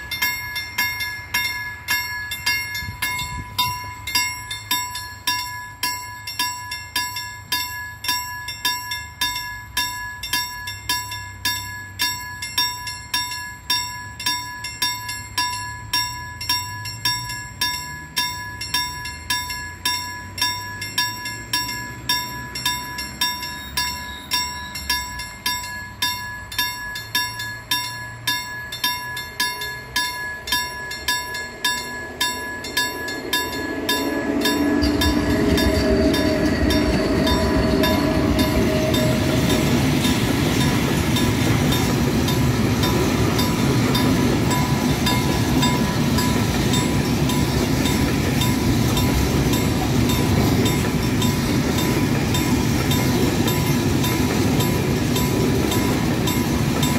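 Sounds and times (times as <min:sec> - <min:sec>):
level crossing warning bell: 0:00.0 - 0:56.9
low rumble of approaching train: 0:00.0 - 0:56.9.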